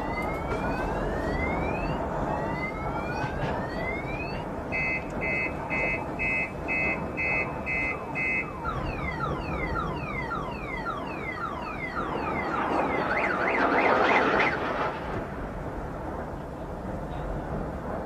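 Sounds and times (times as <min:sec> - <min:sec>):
car alarm chirps and warble: 0:00.0 - 0:14.6.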